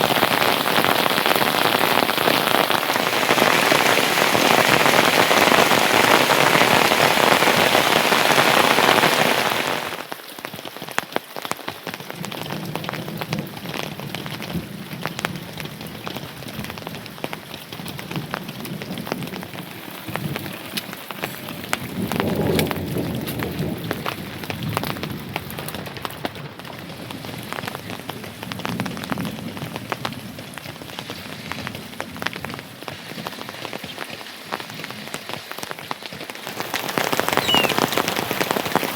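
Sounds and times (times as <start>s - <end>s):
heavy rain downpour: 0.0s - 38.9s
raindrops pattering and dripping: 0.0s - 38.9s.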